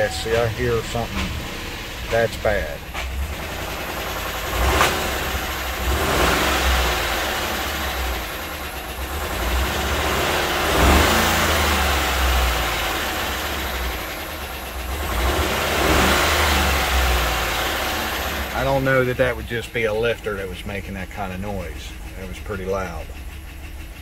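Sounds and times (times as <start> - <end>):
car engine running rough: 0.0 - 24.0.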